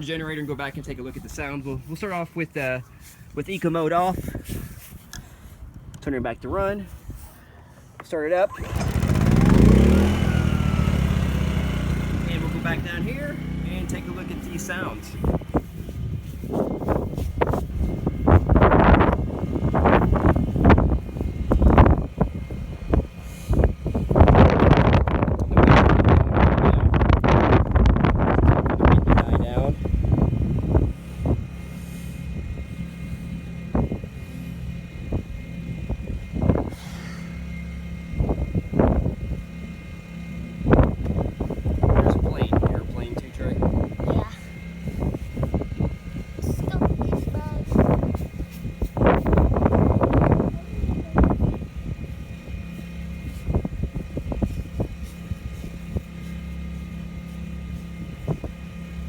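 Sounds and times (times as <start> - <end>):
generator humming: 0.0 - 59.0
wind on microphone: 8.6 - 59.0.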